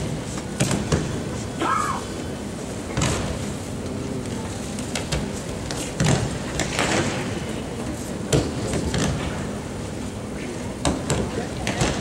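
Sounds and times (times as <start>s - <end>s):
large hall background noise: 0.0s - 12.0s.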